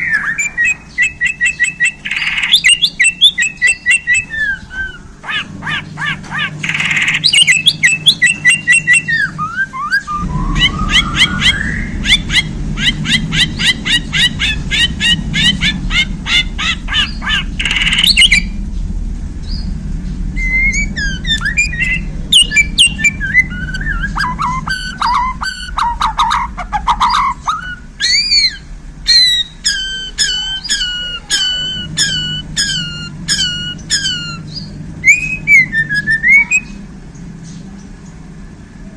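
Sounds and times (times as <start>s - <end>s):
bird singing: 0.0s - 38.4s
low rumble: 0.0s - 38.9s.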